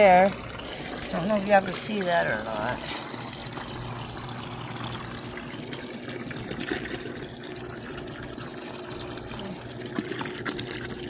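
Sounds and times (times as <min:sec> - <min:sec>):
water pouring into a bucket: 0:00.0 - 0:11.0.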